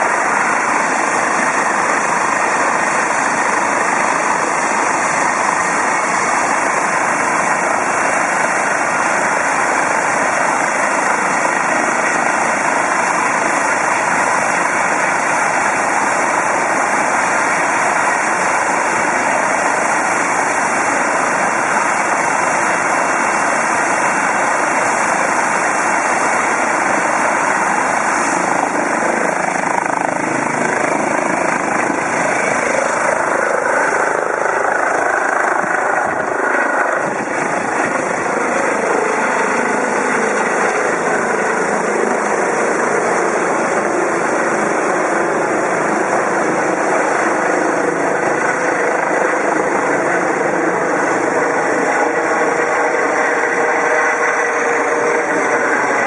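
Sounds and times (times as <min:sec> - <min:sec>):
helicopter engines and rotor: 0:00.0 - 0:56.0.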